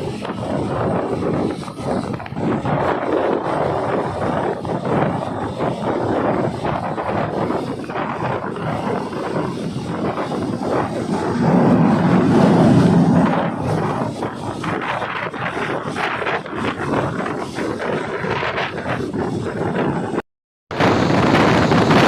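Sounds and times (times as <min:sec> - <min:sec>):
train rumbling: 0:00.0 - 0:20.2, 0:20.8 - 0:22.0.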